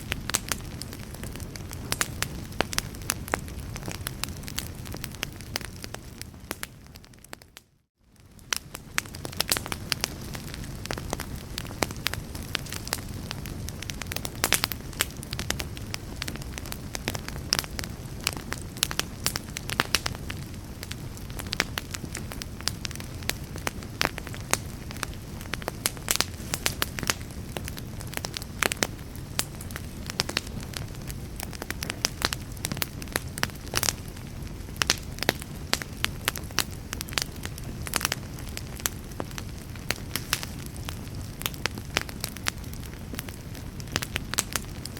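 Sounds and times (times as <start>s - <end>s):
fire crackling and popping: 0.0s - 44.9s
low rumble of fire: 0.0s - 44.9s.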